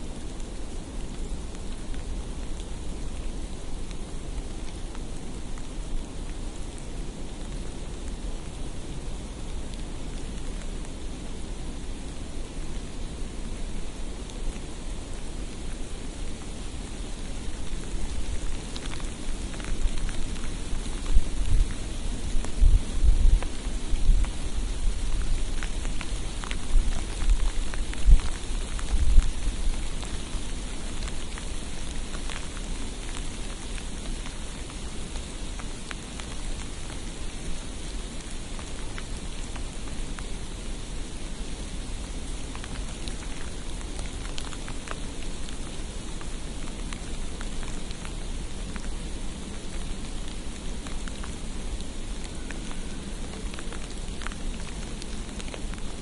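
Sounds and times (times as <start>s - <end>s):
hiss of falling rain: 0.0s - 56.0s.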